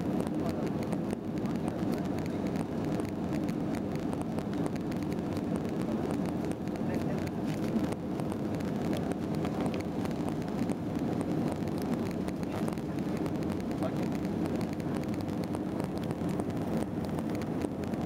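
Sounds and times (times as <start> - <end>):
jet engine and airflow rumble: 0.0 - 18.0.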